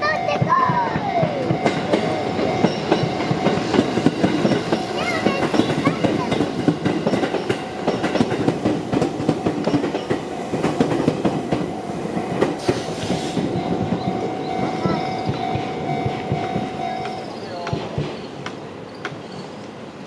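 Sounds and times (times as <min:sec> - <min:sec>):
train wheels clattering over joints: 0:00.3 - 0:19.8.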